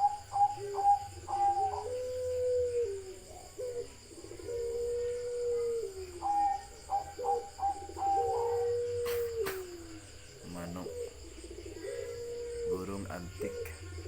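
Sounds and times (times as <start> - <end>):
bird calling: 0.0 - 14.0.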